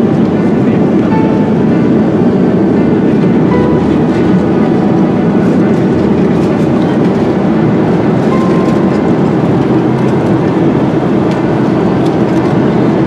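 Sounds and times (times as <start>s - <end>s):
jet airliner cabin noise: 0.0s - 13.0s.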